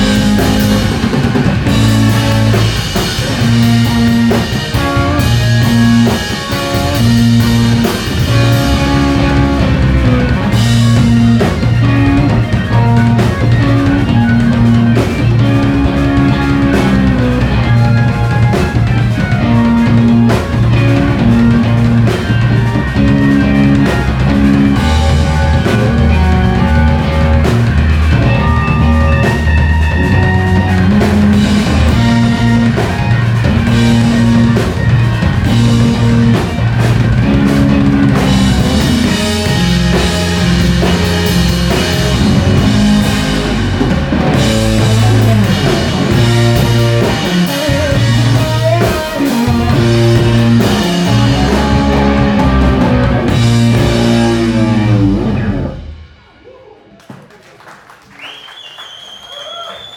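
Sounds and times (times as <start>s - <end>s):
electric guitars: 0.0s - 56.4s
drum kit: 0.0s - 57.2s.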